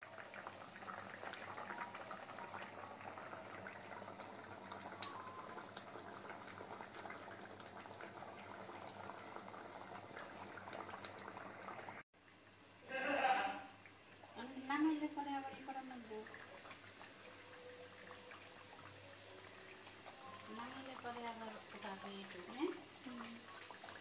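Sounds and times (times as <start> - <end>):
curry bubbling in a metal pot: 0.0 - 12.8, 13.7 - 24.0.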